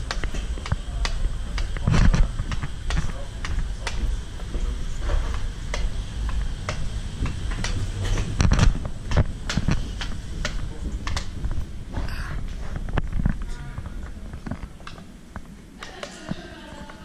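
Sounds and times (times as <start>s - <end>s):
brisk walking footsteps: 0.0s - 17.0s
steady low rumble: 0.0s - 17.0s.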